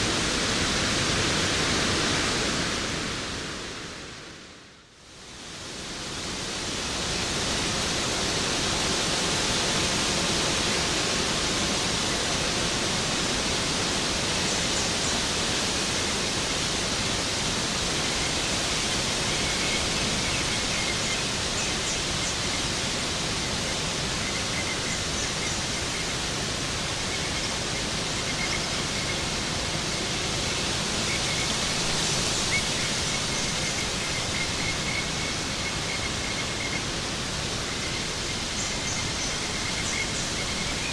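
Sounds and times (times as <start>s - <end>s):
waterfall rushing: 5.8s - 40.9s.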